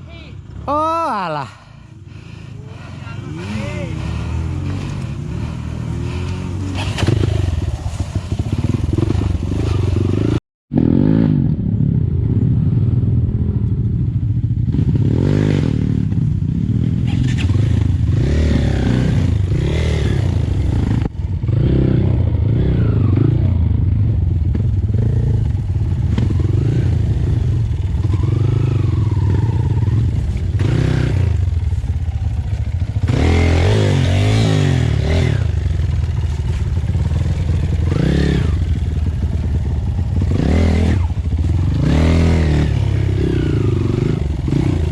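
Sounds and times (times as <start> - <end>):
dirt bike engine revving: 2.2 - 11.5, 14.7 - 44.9.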